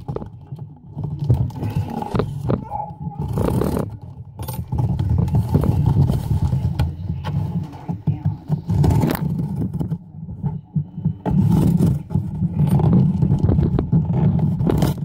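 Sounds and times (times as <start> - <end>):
cardboard scraping on wood: 0.0 - 10.0, 11.0 - 15.0.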